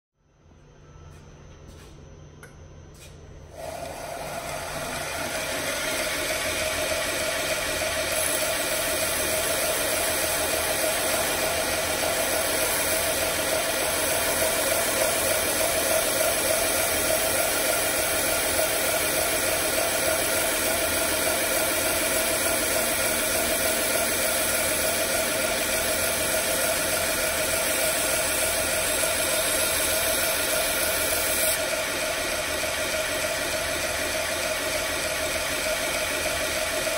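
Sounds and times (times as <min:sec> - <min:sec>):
belt grinder running: 0:03.6 - 0:36.9.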